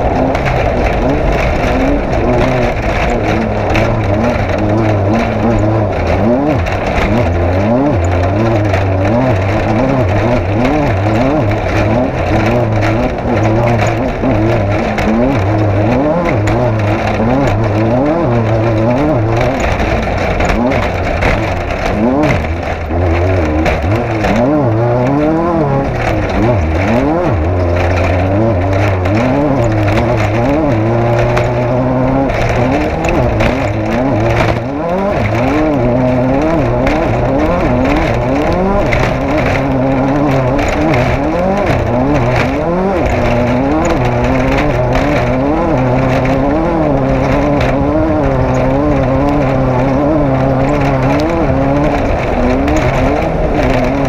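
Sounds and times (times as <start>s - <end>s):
engine revving hard: 0.0s - 54.0s
knocks and clatter: 0.0s - 54.0s.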